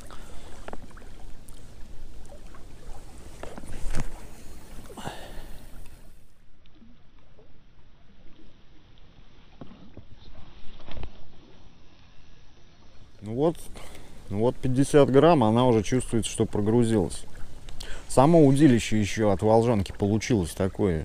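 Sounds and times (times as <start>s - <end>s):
water noise: 0.0s - 21.0s
wind: 0.0s - 21.0s.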